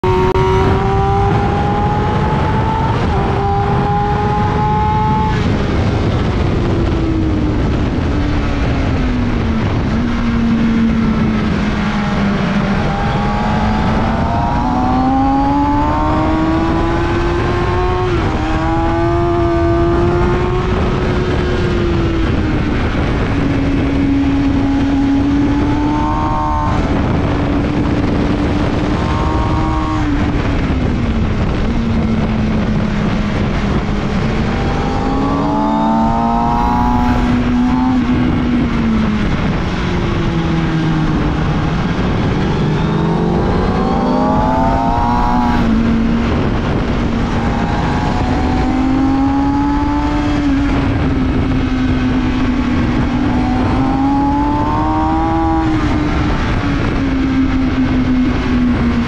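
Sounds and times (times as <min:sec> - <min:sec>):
motorcycle engine revving: 0:00.0 - 0:59.0
wind rushing: 0:00.0 - 0:59.0.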